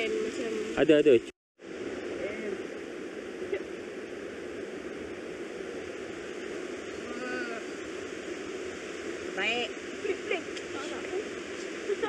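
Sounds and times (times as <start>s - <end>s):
river rushing over rapids: 1.7s - 12.0s.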